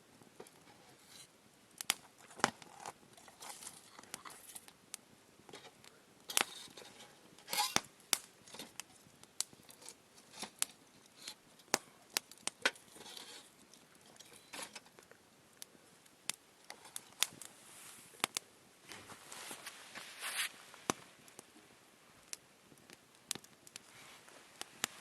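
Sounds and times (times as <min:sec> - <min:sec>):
campfire crackling and popping: 0:00.0 - 0:25.0
faint hiss: 0:03.1 - 0:25.0.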